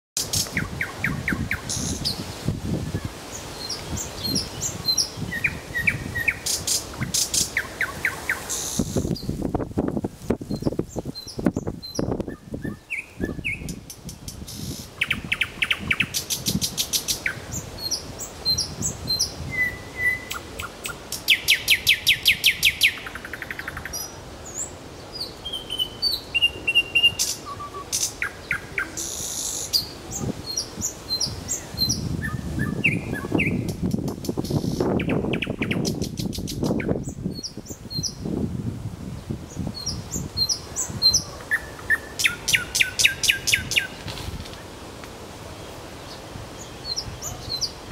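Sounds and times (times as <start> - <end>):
nightingale singing: 0.2 - 9.4, 10.4 - 38.3, 39.2 - 44.0, 46.1 - 47.9.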